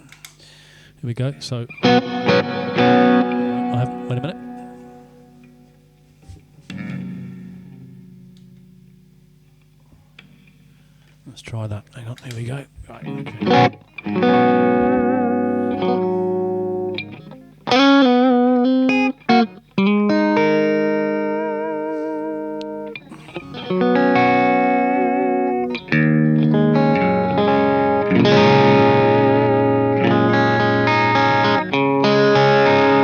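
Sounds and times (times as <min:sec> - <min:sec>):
electric guitar strummed chords: 0:01.1 - 0:11.0, 0:12.2 - 0:33.0.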